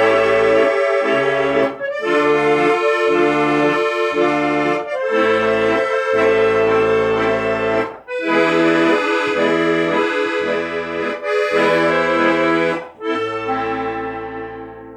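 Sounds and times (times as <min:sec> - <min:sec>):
instrumental music: 0:00.0 - 0:14.9.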